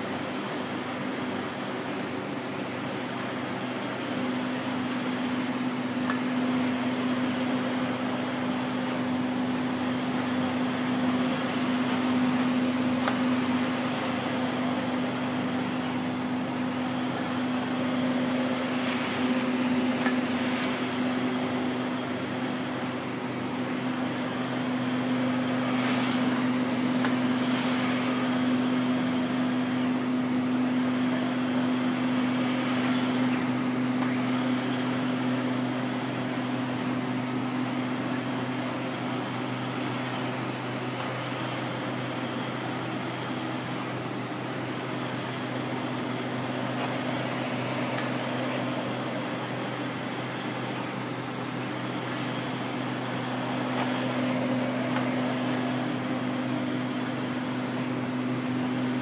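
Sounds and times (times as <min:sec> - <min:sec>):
fan noise: 0:00.0 - 0:59.0
printer humming: 0:00.0 - 0:59.0.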